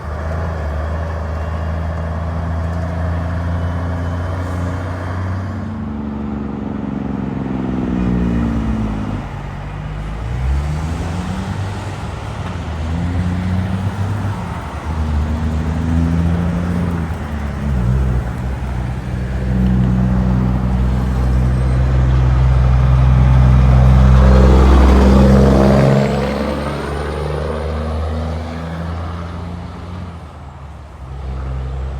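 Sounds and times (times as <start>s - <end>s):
truck engines driving by: 0.0s - 31.9s.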